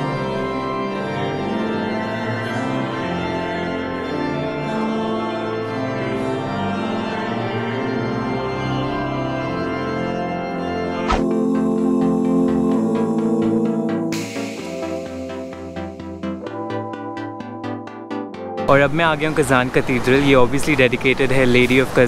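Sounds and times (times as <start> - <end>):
organ music: 0.0 - 19.8.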